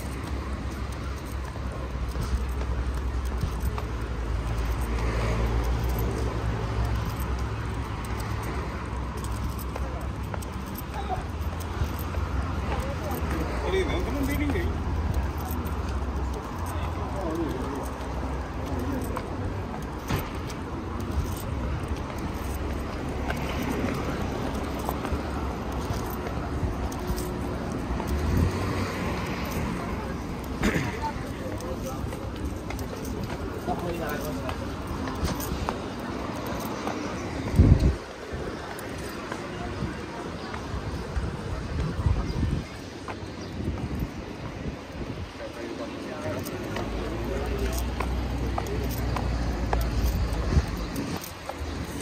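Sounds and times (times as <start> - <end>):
low rumble of road traffic: 0.0 - 52.0.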